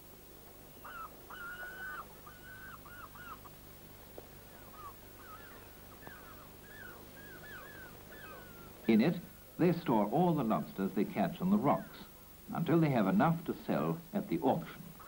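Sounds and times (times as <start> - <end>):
faint steady hum: 0.0 - 15.0
gulls calling: 0.8 - 3.6, 4.4 - 15.0.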